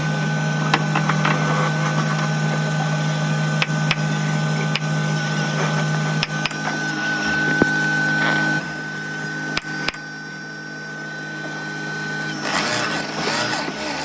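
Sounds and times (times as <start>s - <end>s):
machinery humming and whining: 0.0s - 14.0s.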